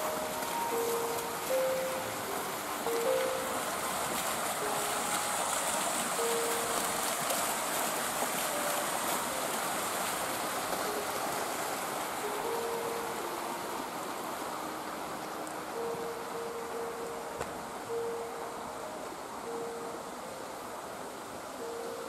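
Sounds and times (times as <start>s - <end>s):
fountain splashing into pond: 0.0s - 18.2s.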